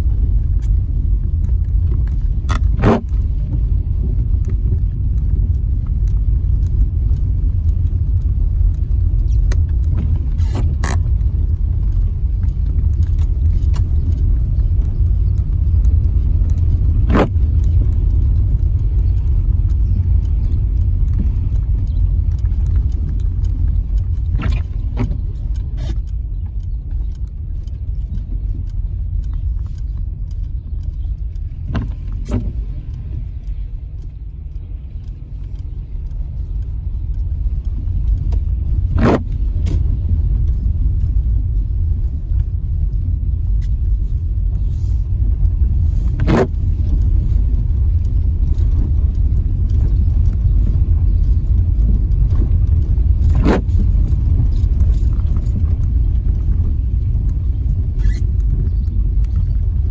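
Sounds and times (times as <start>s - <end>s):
tyres rumbling on cobblestones: 0.0s - 59.9s.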